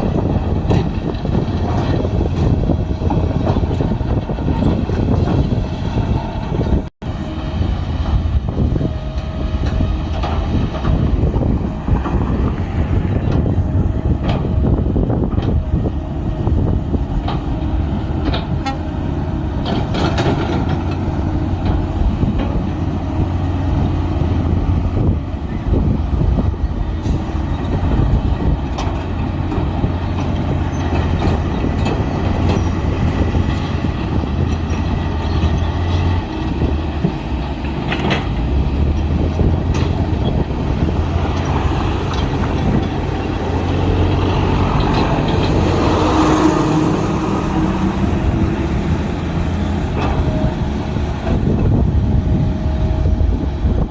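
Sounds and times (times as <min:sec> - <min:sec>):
bulldozer diesel engine droning: 0:00.0 - 0:53.9.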